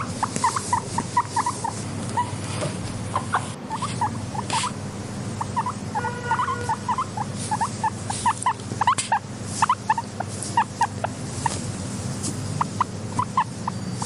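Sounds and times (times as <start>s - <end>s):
guinea pigs squeaking: 0.0s - 14.0s
steady low hum: 0.0s - 14.0s.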